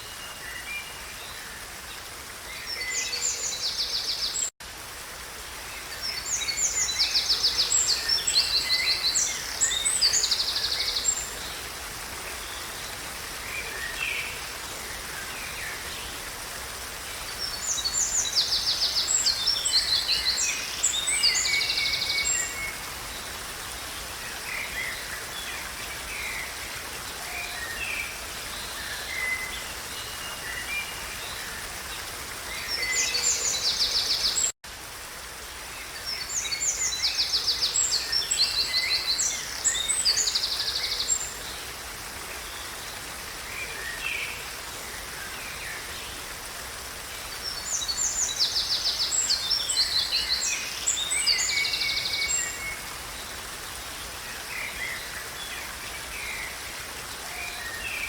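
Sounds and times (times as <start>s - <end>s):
background hiss: 0.0s - 58.0s.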